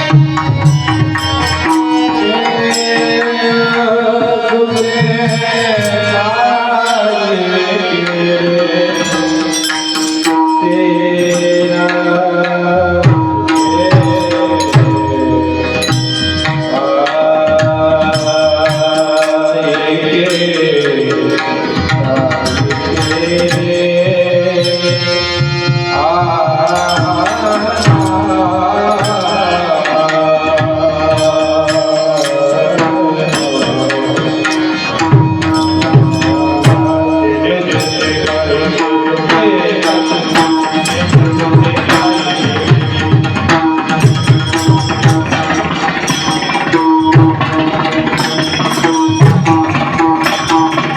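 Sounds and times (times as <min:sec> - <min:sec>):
tabla playing: 0:00.0 - 0:50.9.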